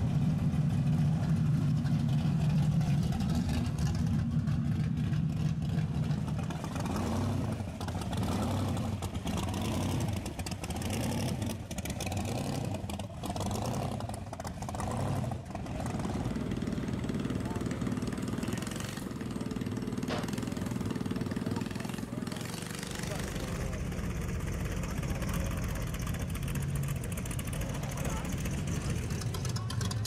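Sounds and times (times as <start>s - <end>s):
car engines rumbling past: 0.0s - 30.0s
pickup engine idling unevenly: 0.0s - 30.0s.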